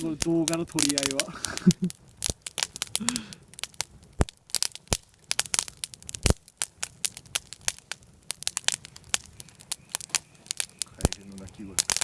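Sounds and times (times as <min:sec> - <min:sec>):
bonfire crackling: 0:00.0 - 0:12.0.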